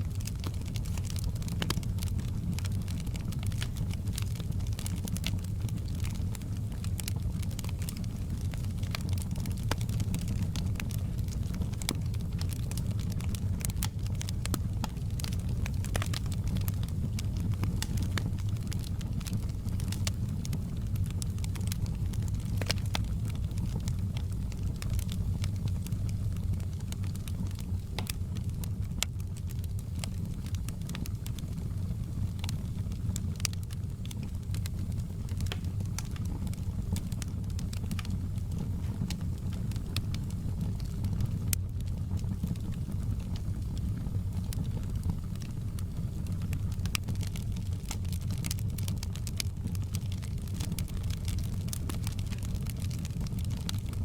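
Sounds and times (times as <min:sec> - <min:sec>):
low fire rumble: 0:00.0 - 0:54.0
wood fire crackling: 0:00.0 - 0:54.0.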